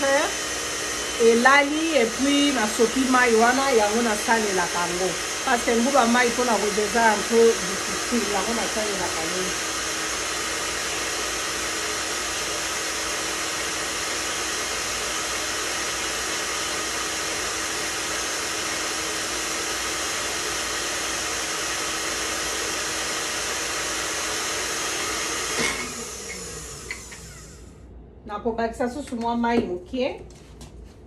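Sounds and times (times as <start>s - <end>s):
blender motor running: 0.0s - 27.8s.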